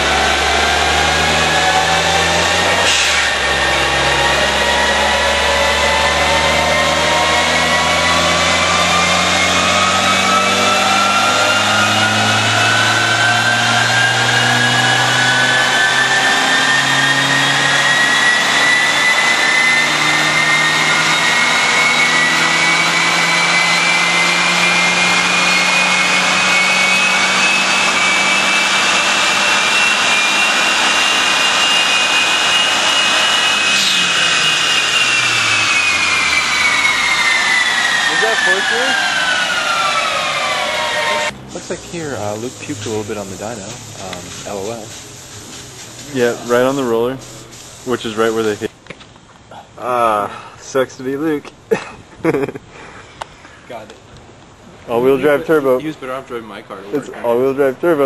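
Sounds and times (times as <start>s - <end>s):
dyno rollers winding down: 0.0s - 48.7s
car engine whine on dyno: 0.0s - 48.8s.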